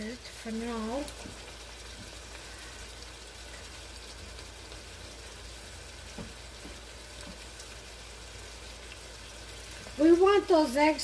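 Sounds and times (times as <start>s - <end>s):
eggs sizzling in pan: 0.0s - 11.0s.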